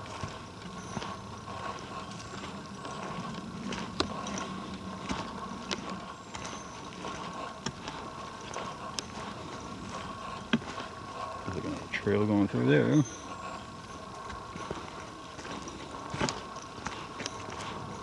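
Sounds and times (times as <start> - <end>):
footsteps on rocks and litter: 0.0 - 18.0.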